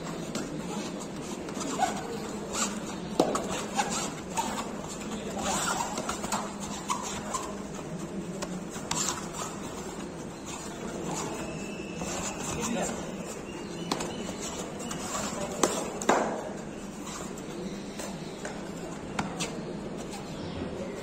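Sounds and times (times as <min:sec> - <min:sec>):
sports shoes squeaking: 0:00.0 - 0:21.0.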